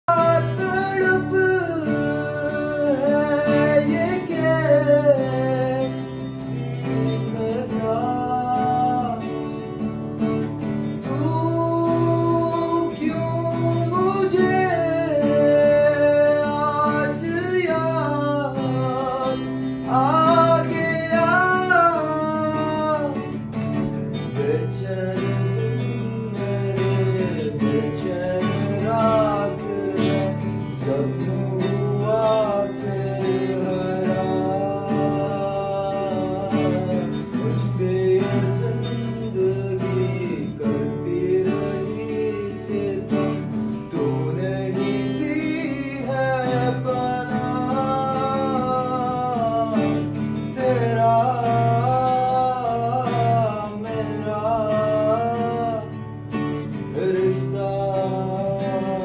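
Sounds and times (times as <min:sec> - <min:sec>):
acoustic guitar: 0:00.0 - 0:59.0
man singing: 0:00.0 - 0:59.0.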